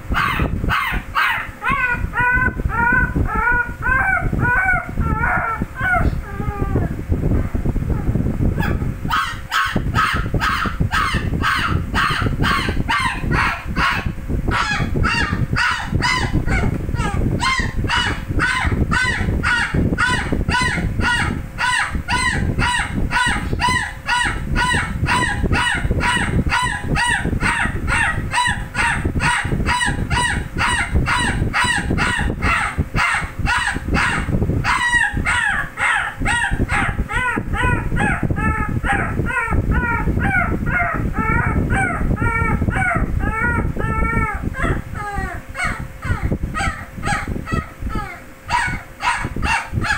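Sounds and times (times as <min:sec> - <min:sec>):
puppy yelping cries: 0:00.1 - 0:06.8, 0:08.6 - 0:49.9.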